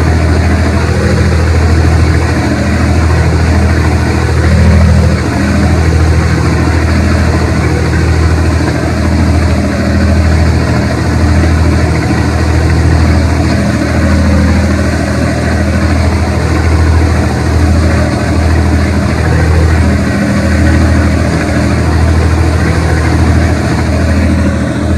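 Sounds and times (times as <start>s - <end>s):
boat engine droning: 0.0s - 24.9s
rushing noise: 0.0s - 24.9s.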